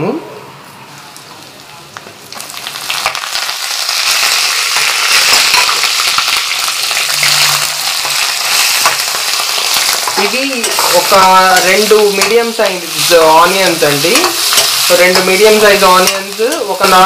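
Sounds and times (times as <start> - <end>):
oil sizzling with small pops: 1.2 - 17.0.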